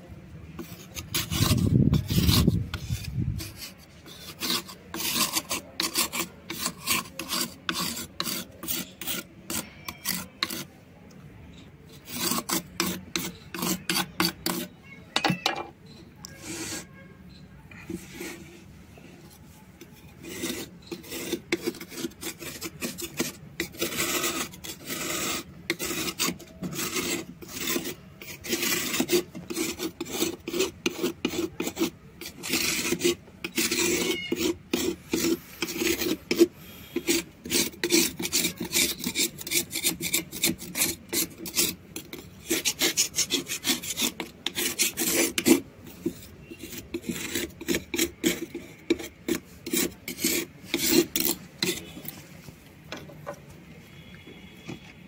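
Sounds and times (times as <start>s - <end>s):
knife scraping stone: 0.6s - 10.8s, 11.5s - 18.5s, 19.8s - 52.2s.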